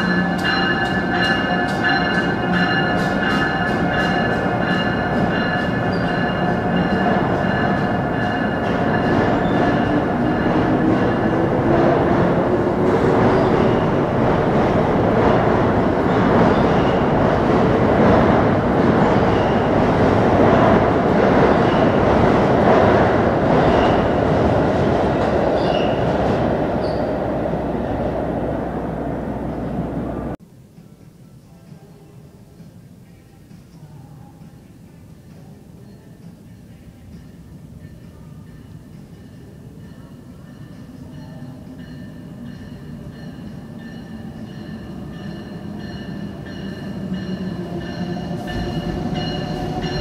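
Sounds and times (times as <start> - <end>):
electric locomotive whine: 0.0 - 30.4, 35.8 - 50.0
train coaches rushing past: 0.0 - 30.4, 34.4 - 50.0.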